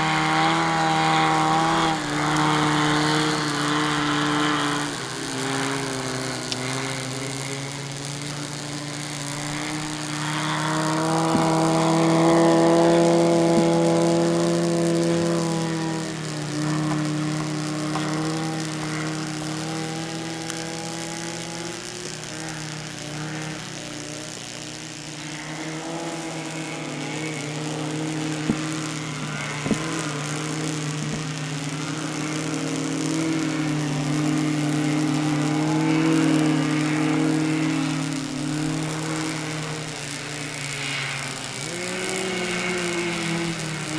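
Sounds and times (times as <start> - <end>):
motor humming: 0.0 - 43.9.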